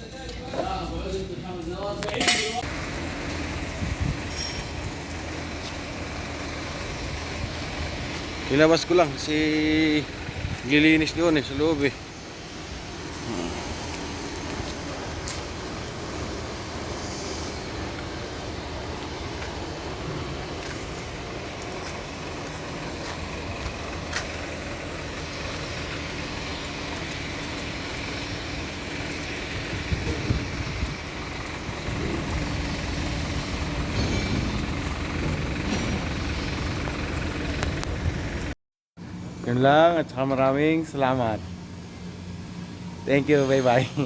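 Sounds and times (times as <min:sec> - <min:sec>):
car engine rumbling: 0:00.0 - 0:44.0.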